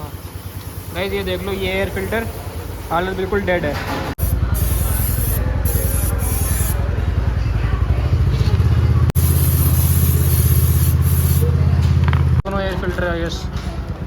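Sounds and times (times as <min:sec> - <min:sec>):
motorcycle engine idling: 0:00.0 - 0:03.6, 0:04.2 - 0:14.0.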